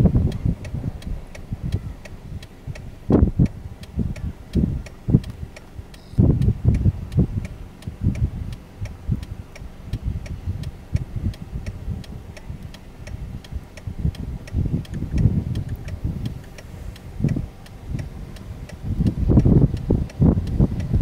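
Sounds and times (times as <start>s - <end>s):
faint regular ticking: 0.0s - 21.0s
wind buffeting microphone: 0.0s - 21.0s.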